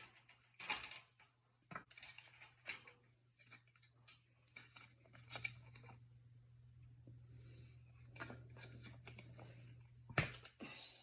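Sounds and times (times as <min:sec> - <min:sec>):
clicks and rustles of handling: 0:00.0 - 0:06.2, 0:07.8 - 0:10.8
steady low hum: 0:00.0 - 0:11.0.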